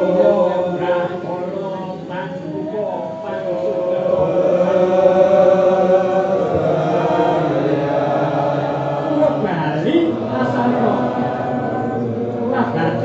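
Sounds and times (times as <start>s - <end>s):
voices chanting long held notes: 0.0s - 13.0s.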